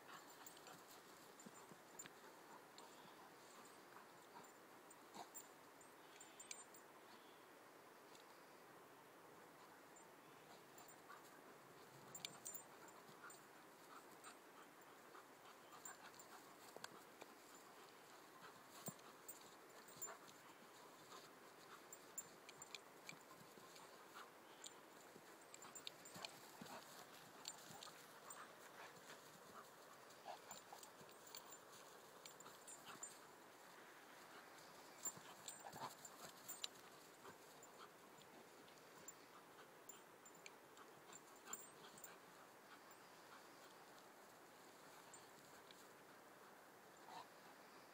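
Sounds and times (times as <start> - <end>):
puppies panting: 0.0 - 5.5, 10.5 - 46.2
dogs play-fighting on grass: 0.0 - 47.9.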